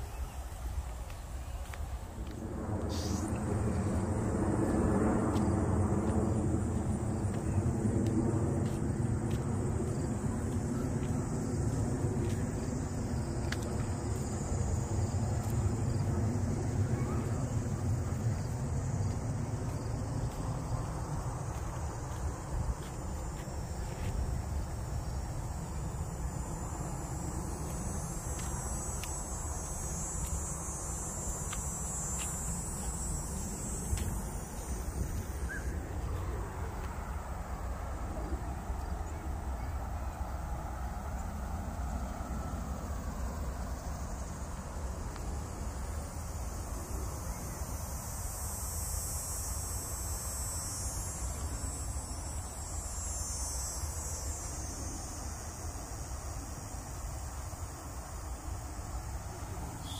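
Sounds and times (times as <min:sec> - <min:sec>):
wind rumbling on microphone: 0:00.0 - 0:48.1
high-pitched insect chorus: 0:00.0 - 0:59.9.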